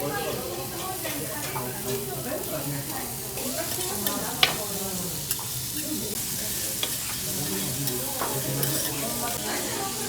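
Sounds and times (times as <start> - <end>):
batter sizzling on a griddle: 0.0 - 10.0.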